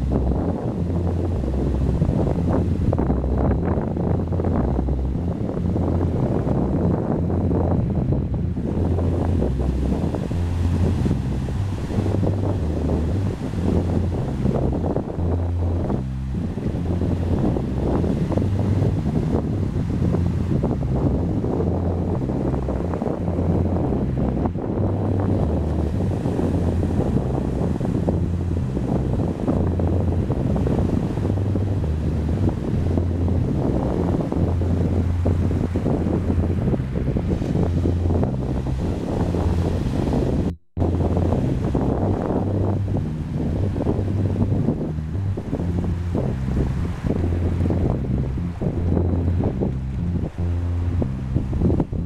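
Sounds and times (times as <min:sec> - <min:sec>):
sea waves on the shore: 0:00.0 - 0:52.0
wind buffeting microphone: 0:00.0 - 0:52.0.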